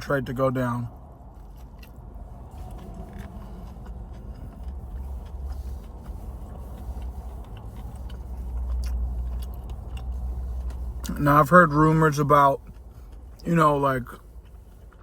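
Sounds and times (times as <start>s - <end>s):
car idling: 0.0s - 15.0s.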